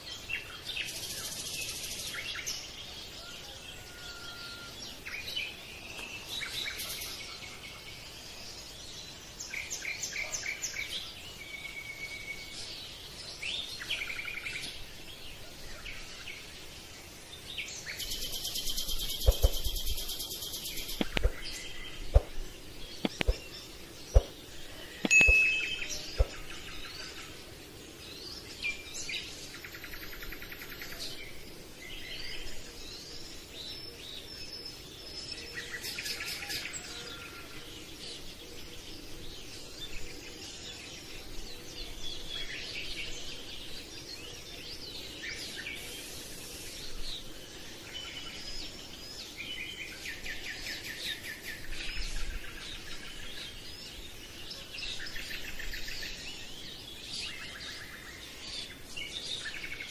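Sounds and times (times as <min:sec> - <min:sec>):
birds chirping and trilling: 0:00.0 - 0:59.9
faint steady hiss: 0:00.0 - 0:59.9.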